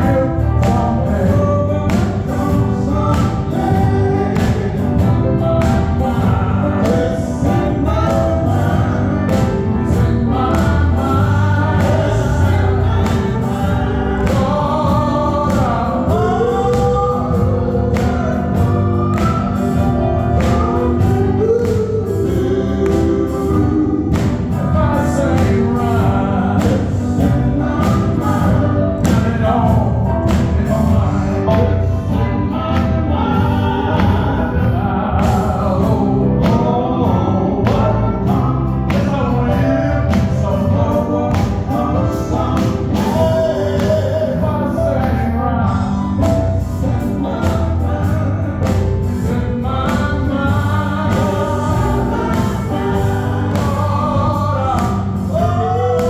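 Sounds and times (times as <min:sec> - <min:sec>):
electric guitar: 0:00.0 - 0:56.0
male voices singing in harmony: 0:00.0 - 0:56.0
steady beat: 0:00.0 - 0:56.0.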